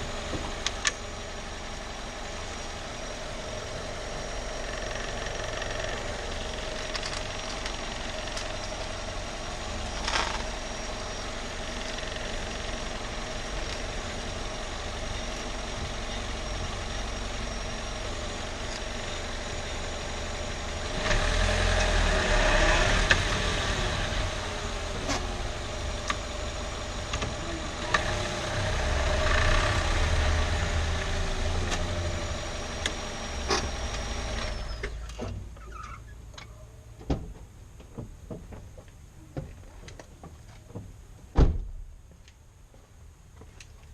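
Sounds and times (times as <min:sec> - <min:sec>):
car engine running: 0:00.0 - 0:36.9.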